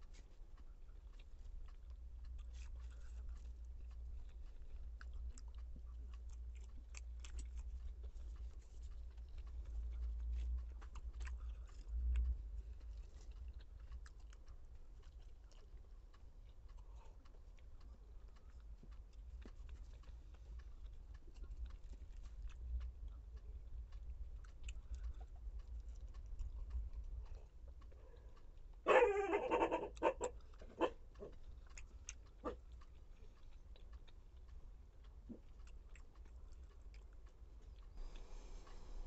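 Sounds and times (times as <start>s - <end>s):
chewing and mouth sounds: 0.0s - 39.0s.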